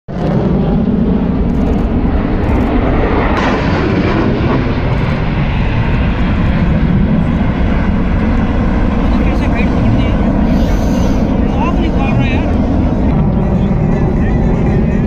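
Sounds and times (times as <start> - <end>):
jet aircraft flying overhead: 0.1 - 15.0.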